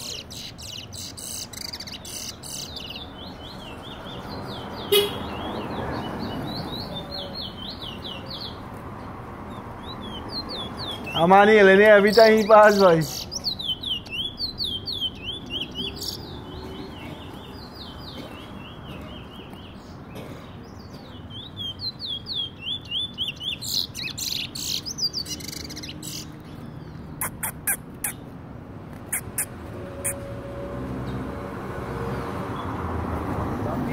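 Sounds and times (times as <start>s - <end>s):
finch singing: 0.0s - 8.7s, 9.5s - 28.3s.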